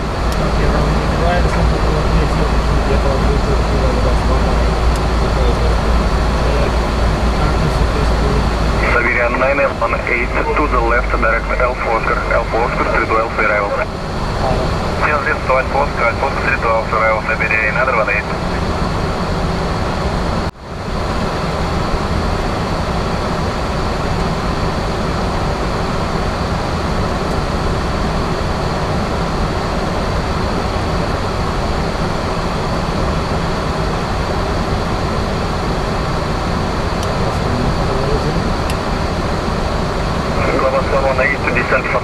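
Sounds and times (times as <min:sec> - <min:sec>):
air conditioning hiss: 0:00.0 - 0:42.0
jet engines: 0:00.0 - 0:42.0.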